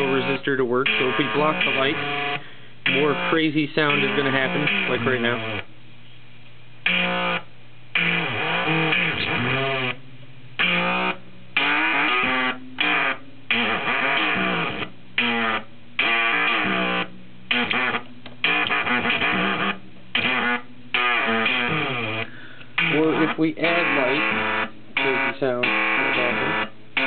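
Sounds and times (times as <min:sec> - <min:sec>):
glitchy electronic tones: 0:00.0 - 0:05.6, 0:06.8 - 0:10.0, 0:10.6 - 0:27.0.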